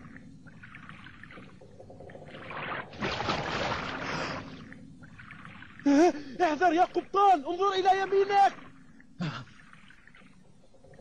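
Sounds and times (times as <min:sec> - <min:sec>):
water splashing and churning: 0:00.0 - 0:10.2.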